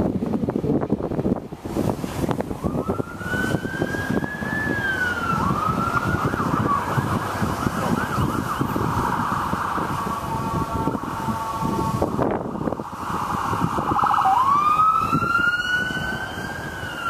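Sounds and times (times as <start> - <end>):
emergency vehicle siren: 2.3 - 17.0.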